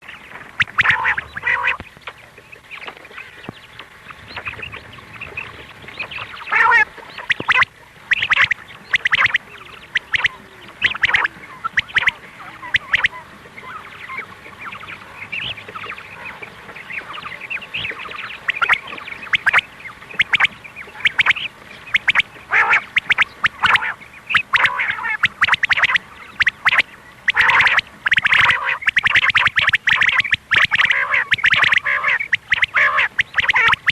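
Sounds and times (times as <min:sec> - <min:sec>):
quail calls: 0:00.0 - 0:33.9.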